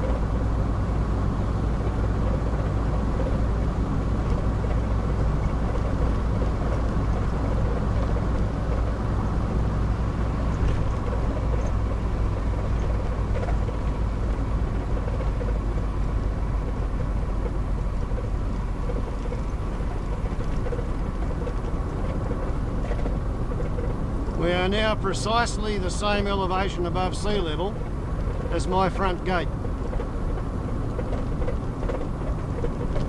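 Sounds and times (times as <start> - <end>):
vehicle engine and tyre drone: 0.0 - 33.0.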